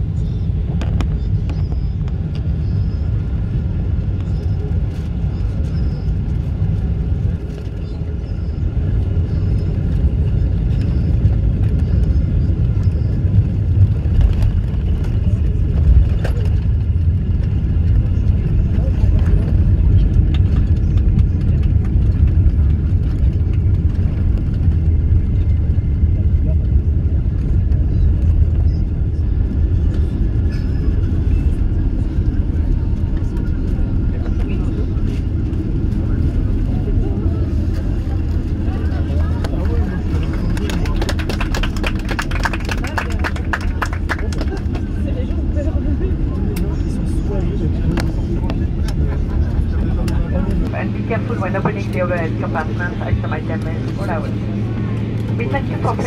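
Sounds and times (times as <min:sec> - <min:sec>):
low rumble of engines and airflow: 0:00.0 - 0:56.0.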